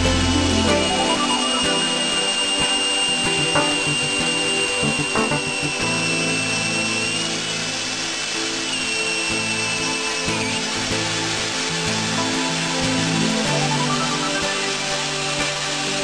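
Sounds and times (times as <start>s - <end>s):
background music: 0.0s - 16.0s
magnetic drill whining: 0.0s - 16.0s.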